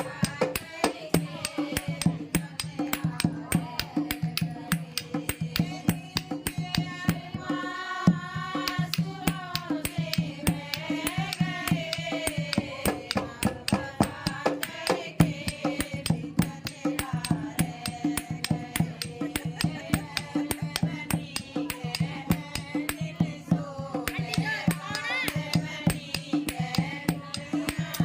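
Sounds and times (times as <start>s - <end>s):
person singing: 0.0s - 10.0s, 10.7s - 28.0s
fast percussion beat: 0.0s - 28.0s.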